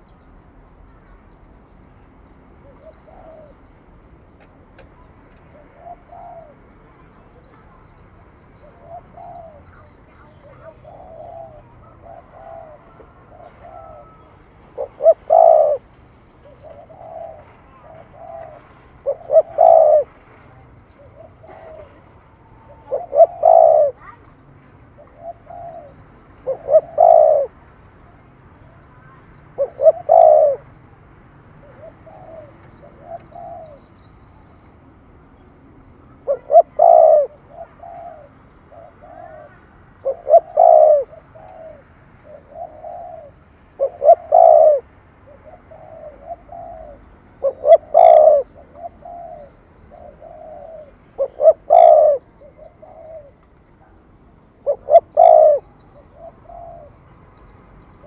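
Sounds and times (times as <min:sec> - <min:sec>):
dove cooing: 0:02.6 - 0:24.3, 0:24.9 - 0:30.8, 0:31.6 - 0:34.5, 0:36.1 - 0:57.0.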